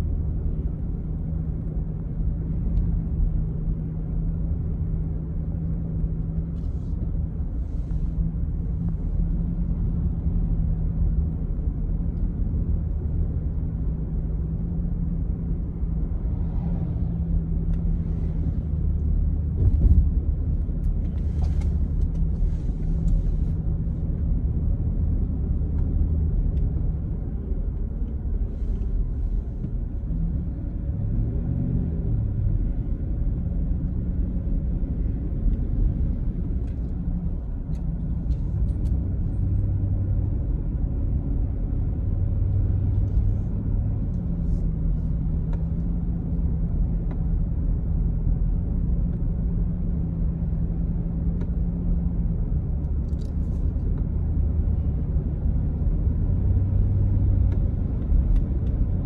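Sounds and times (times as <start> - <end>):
engine and road rumble in car cabin: 0.0 - 59.0
low steady hum: 0.0 - 59.0.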